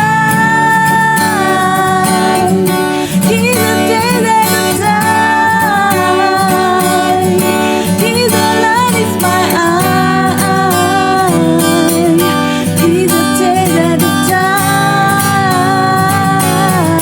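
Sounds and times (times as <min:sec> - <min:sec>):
acoustic guitar: 0:00.0 - 0:17.0
person singing slow melody: 0:00.0 - 0:17.0.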